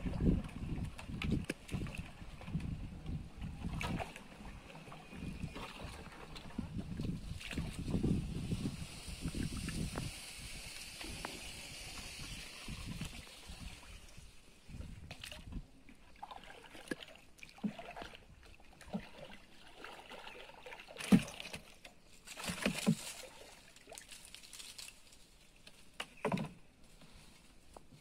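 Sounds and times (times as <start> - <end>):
water splashes: 0.0 - 24.4
paddle sloshing in water: 0.0 - 24.8.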